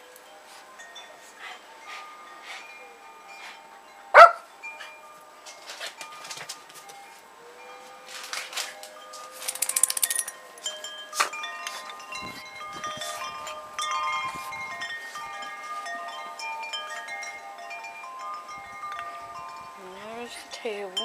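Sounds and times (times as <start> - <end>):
wind chimes ringing: 0.0 - 21.0.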